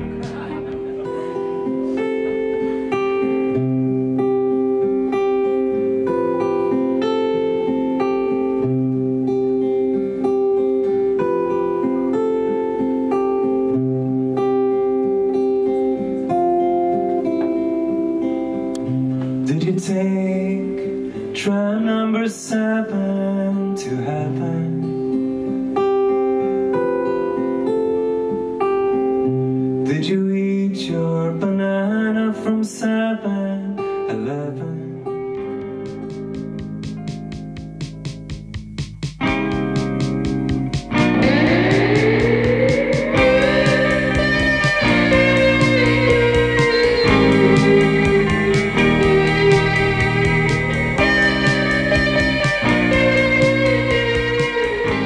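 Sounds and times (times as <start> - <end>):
acoustic guitar picking chords: 0.0 - 55.0.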